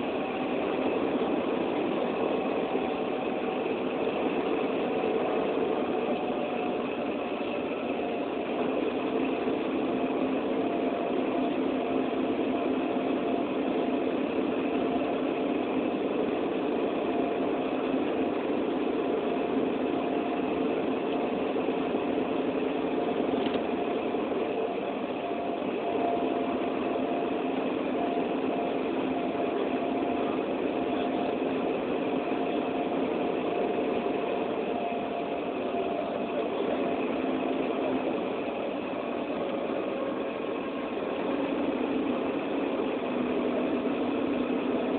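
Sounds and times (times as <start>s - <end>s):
vehicle engine hum: 0.0s - 44.9s.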